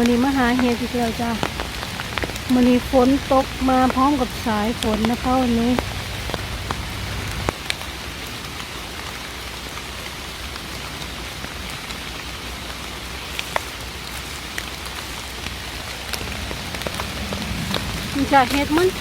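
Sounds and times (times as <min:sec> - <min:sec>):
raindrops ticking close by: 0:00.0 - 0:19.0
steady rain: 0:00.0 - 0:19.0.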